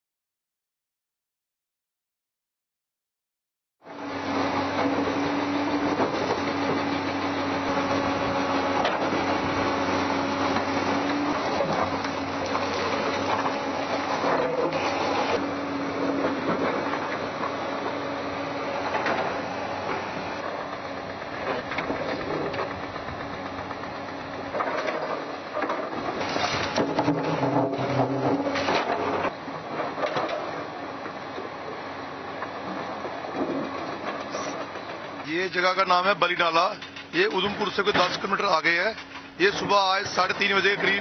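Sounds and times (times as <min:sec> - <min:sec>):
excavator diesel engine running: 0:03.8 - 0:41.0.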